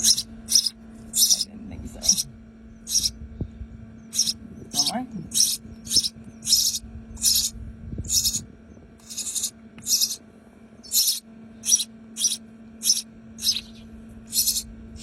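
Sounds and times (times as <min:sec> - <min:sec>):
nestling birds begging calls: 0:00.0 - 0:15.0.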